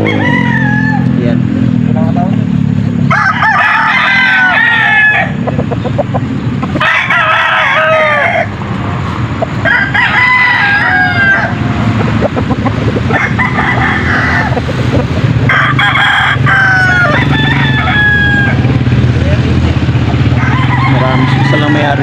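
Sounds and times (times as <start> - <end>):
roosters crowing: 0.0 - 1.9, 2.6 - 22.0.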